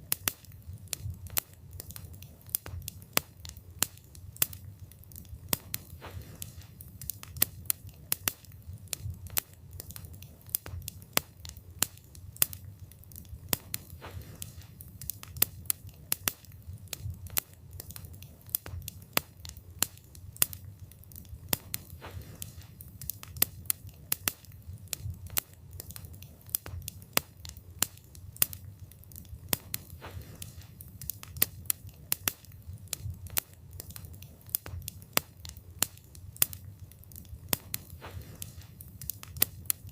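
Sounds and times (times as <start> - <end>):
low rumble of flame: 0.0 - 39.9
wood crackling and popping: 0.0 - 39.9.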